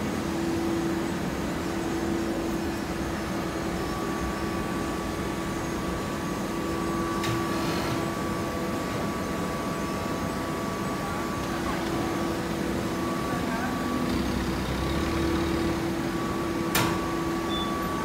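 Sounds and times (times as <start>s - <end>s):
factory machinery hum: 0.0s - 18.0s
thin steady whine: 0.0s - 18.0s.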